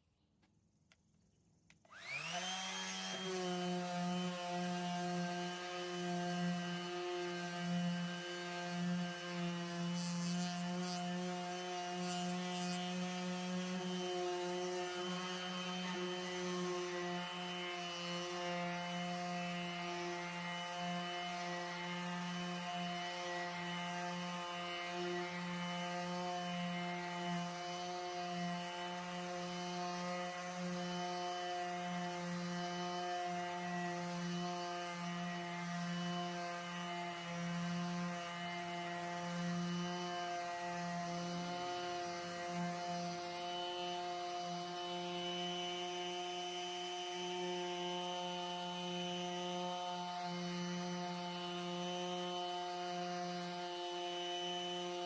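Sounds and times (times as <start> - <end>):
electric power tool motor running: 1.8 - 55.0.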